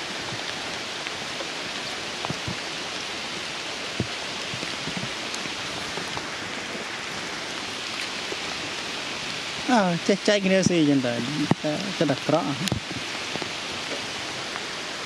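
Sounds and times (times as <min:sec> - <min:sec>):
loud raindrops: 0:00.0 - 0:15.0
rain on stone and foliage: 0:00.0 - 0:15.0.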